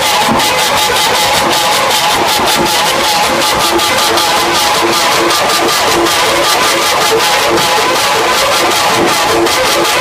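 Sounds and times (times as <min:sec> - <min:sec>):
loud music from speaker stacks: 0:00.0 - 0:10.0.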